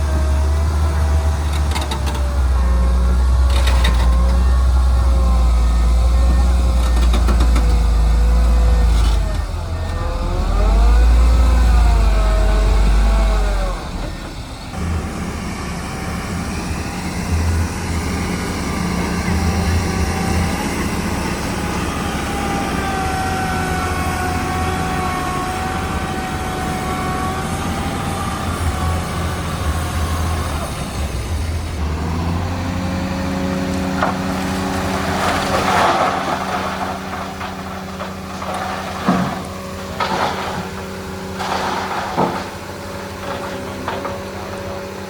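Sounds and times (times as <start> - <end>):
diesel machinery rumbling: 0.0 - 45.0.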